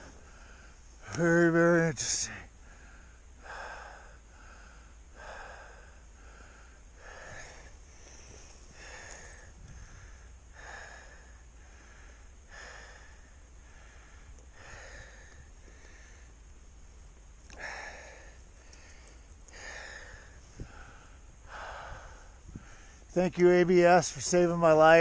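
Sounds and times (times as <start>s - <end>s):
person breathing heavily: 0.0s - 1.1s, 2.6s - 16.5s, 17.5s - 23.1s.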